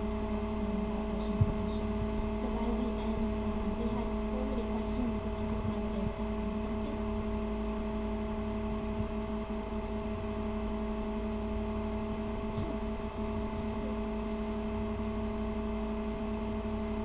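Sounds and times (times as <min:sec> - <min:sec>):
electrical hum: 0:00.0 - 0:17.0
low rumble: 0:00.0 - 0:17.0.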